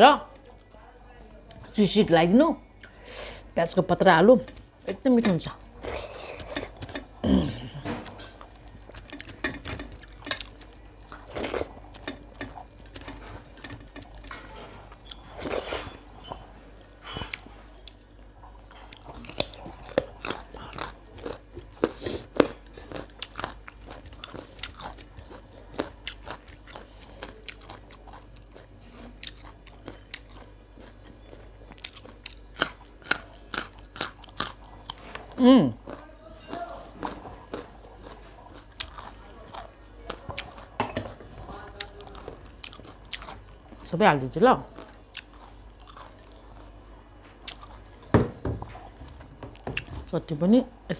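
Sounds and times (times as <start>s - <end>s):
person chewing and crunching food: 4.5s - 48.1s, 48.7s - 50.0s.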